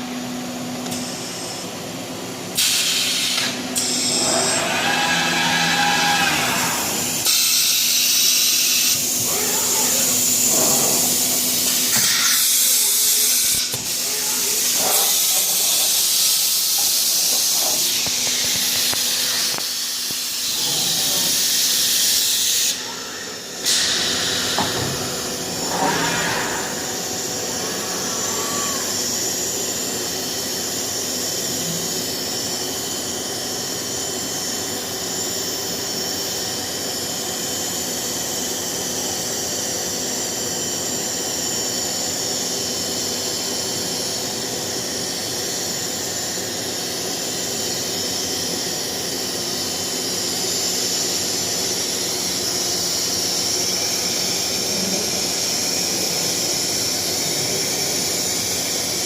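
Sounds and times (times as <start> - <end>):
wood cnc machine hissing and whining: 0.0 - 59.0.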